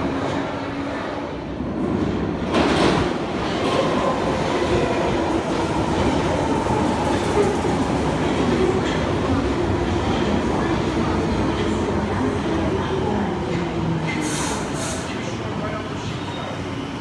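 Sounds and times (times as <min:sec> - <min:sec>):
underground train rumbling and rattling: 0:00.0 - 0:17.0.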